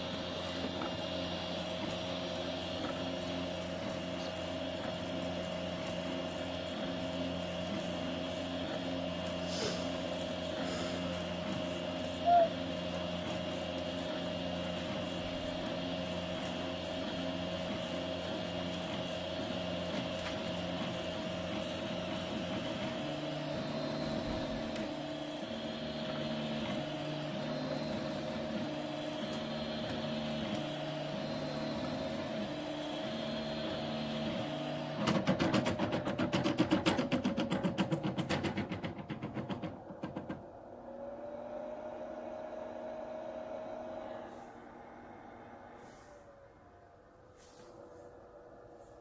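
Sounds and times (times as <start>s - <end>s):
stepper motors whirring: 0.0s - 41.5s
fan hum: 0.0s - 49.0s.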